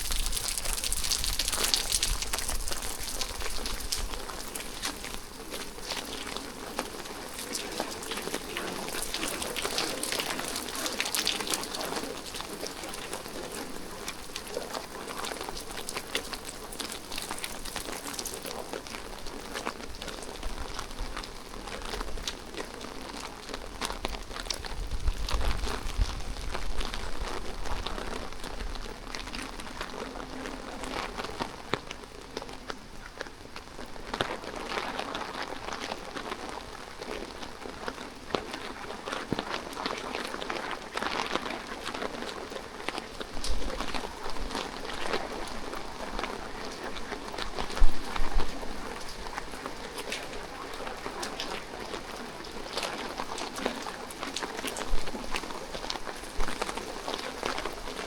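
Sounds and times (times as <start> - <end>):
rain on hard surfaces: 0.0 - 58.0.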